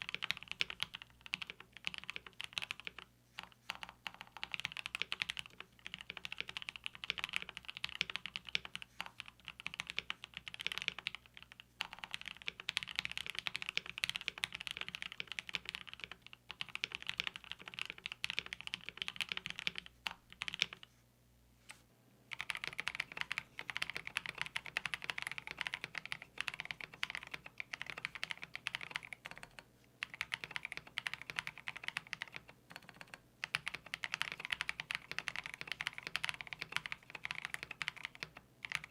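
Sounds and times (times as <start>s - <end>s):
typing on mechanical keyboard: 0.0s - 20.9s, 22.3s - 38.9s.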